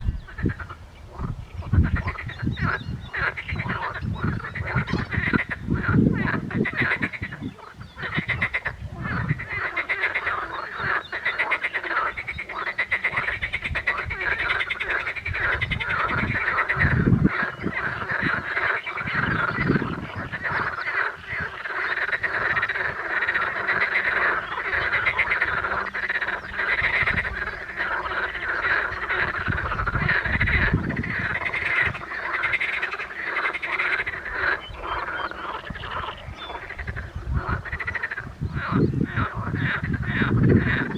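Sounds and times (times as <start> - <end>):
frogs croaking in chorus: 0.0 - 40.9.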